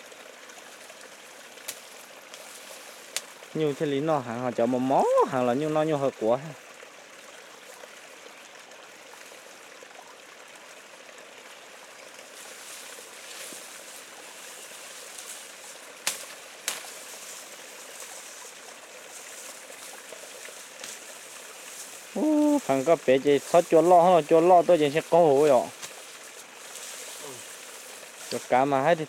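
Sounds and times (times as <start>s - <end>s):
steady rushing hiss: 0.0s - 6.6s, 10.6s - 29.0s.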